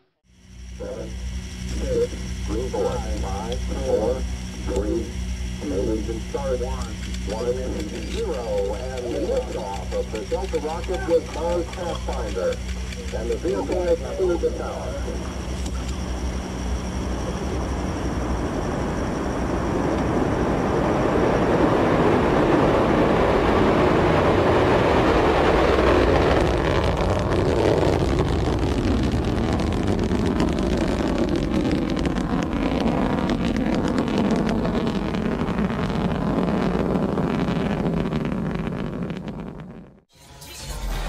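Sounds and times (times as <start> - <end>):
rocket engine roaring: 0.2 - 40.0.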